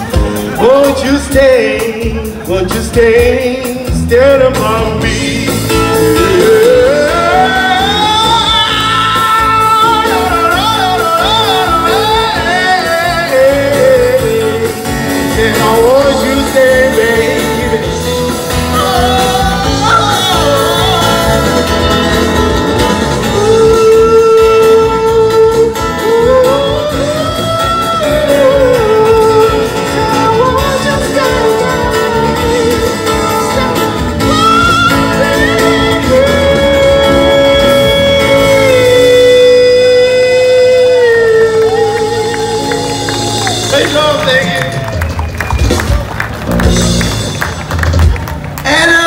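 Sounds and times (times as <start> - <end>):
man singing into a microphone: 0.0 - 44.8, 48.6 - 49.0
live band with guitars: 0.0 - 49.0.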